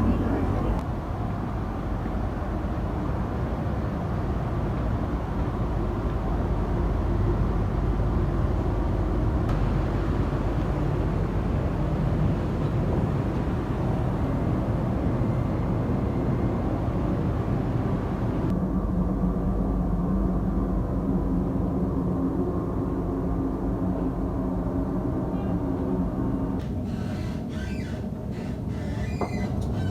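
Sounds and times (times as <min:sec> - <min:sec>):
electric train rumbling: 0:00.0 - 0:29.9.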